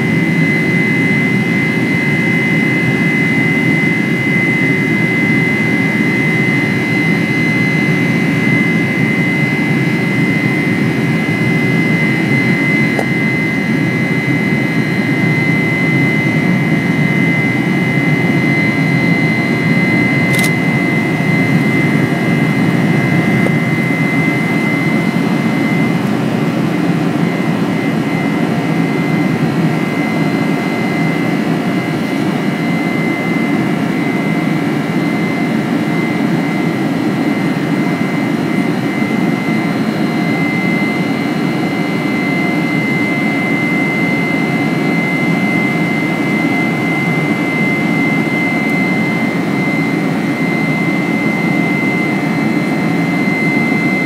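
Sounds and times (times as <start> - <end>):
high engine whine: 0.0 - 54.0
jet engine cabin rumble: 0.0 - 54.0.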